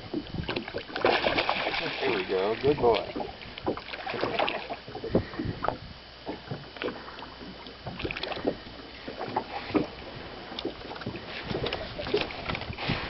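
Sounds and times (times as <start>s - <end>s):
knocks and taps in boat: 0.0s - 1.4s, 2.4s - 13.0s.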